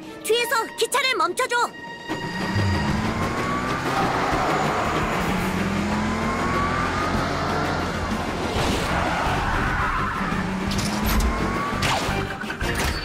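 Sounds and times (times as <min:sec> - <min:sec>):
music: 0:00.0 - 0:13.0
cartoon car engine whine: 0:02.1 - 0:12.8.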